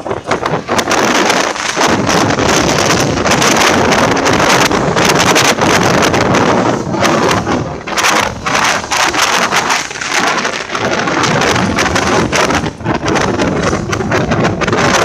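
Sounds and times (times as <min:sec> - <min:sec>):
train running noise: 0:00.0 - 0:15.0
wind buffeting microphone: 0:00.0 - 0:15.0.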